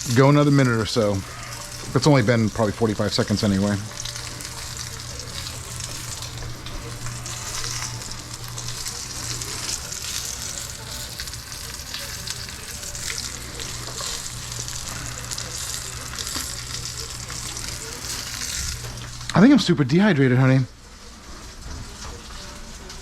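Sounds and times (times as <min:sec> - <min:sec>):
meat searing in a pan: 0:00.0 - 0:23.0.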